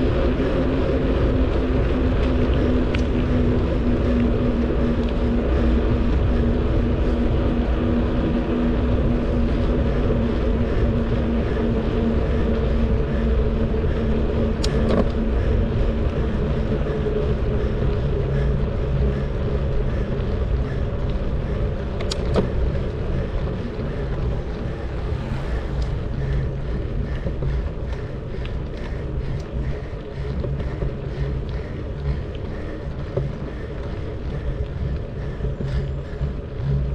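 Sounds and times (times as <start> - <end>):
bicycle wind and tyre noise: 0.0 - 36.9
low hum: 0.0 - 36.9.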